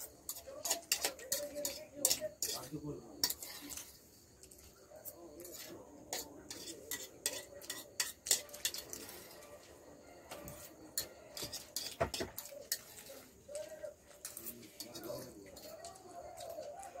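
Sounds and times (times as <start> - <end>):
forks clinking on plates: 0.0 - 4.7, 5.4 - 9.5, 10.4 - 17.0.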